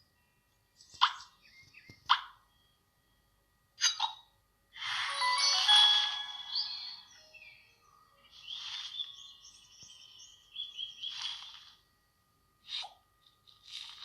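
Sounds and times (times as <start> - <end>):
faint high bird chirps: 0.0 - 11.8.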